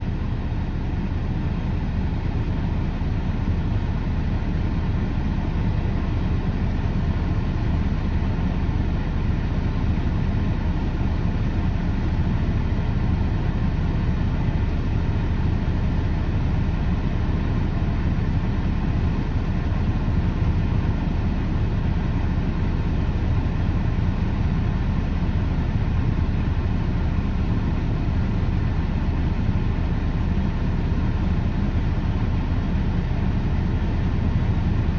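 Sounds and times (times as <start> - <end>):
heavy machinery engine running: 0.0 - 34.9.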